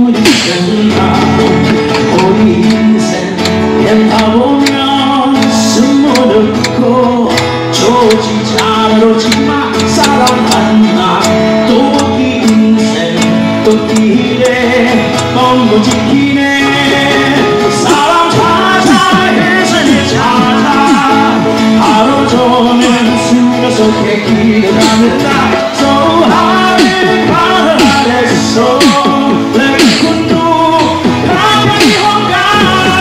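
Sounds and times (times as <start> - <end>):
acoustic guitar: 0.0 - 33.0
man singing: 0.0 - 33.0
steady drum beat: 0.0 - 33.0.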